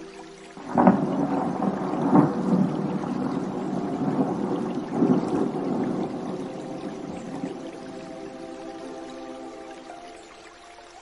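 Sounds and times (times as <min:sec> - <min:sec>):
thunder clap and rumble: 0:00.6 - 0:09.6.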